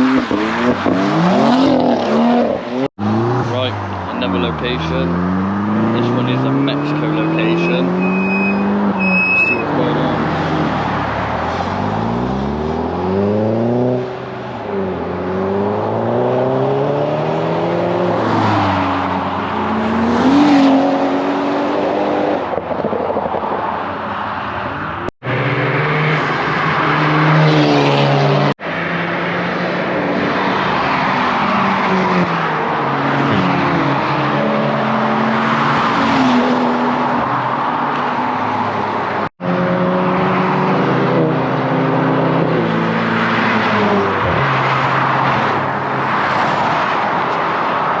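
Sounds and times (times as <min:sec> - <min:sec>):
car engines revving past: 0:00.0 - 0:48.0.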